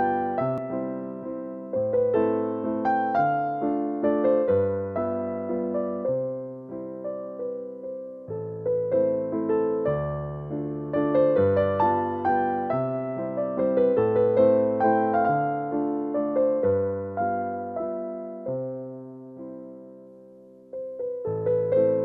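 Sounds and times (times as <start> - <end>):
slow solo piano piece: 0.0 - 22.0.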